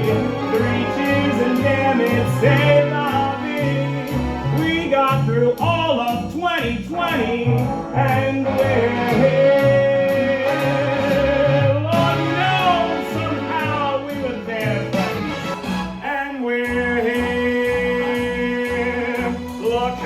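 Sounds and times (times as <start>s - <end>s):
band accompaniment with steady beat: 0.0s - 20.0s.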